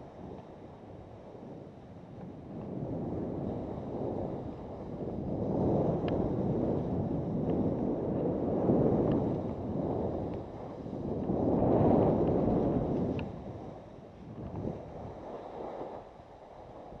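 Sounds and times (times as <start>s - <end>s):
wind on microphone: 0.0s - 17.0s
skis scraping over snow: 0.1s - 17.0s.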